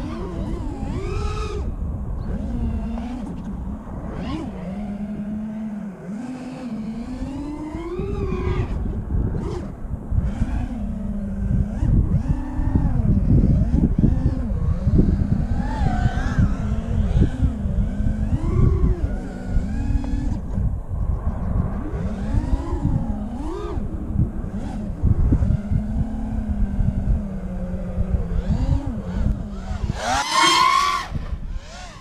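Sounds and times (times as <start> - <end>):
quadcopter motors whining: 0.0 - 32.0
wind on microphone: 0.0 - 32.0.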